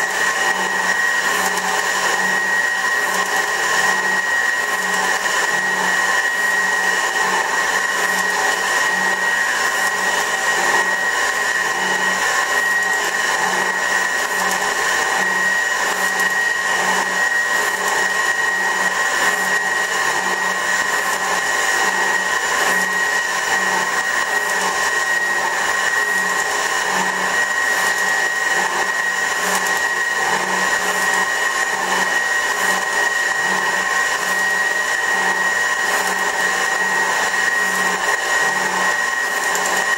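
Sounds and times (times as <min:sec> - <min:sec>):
metal shaper high whine: 0:00.0 - 0:39.9.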